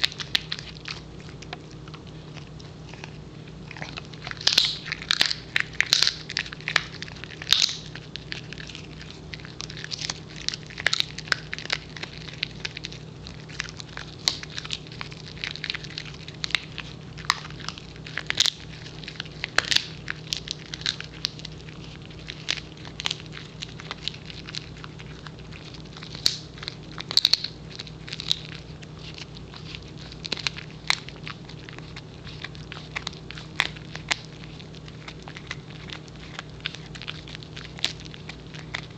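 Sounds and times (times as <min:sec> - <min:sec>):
dog gnawing a chew stick: 0:00.0 - 0:38.9.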